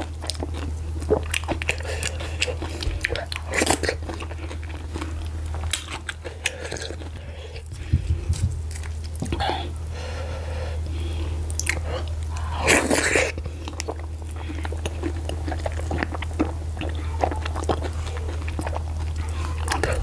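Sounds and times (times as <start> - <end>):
low hum: 0.0 - 20.0
person chewing wet food: 0.0 - 20.0.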